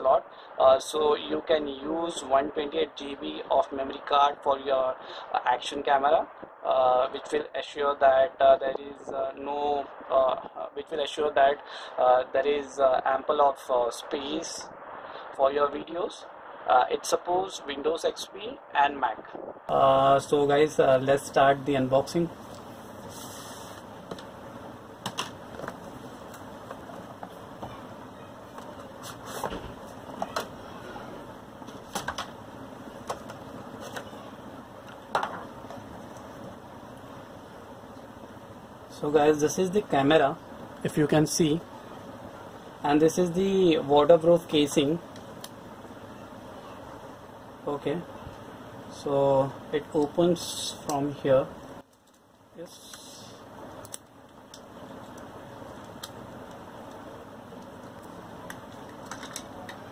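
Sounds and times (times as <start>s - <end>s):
background noise: 0.0s - 59.9s
steady background hum: 0.0s - 59.9s.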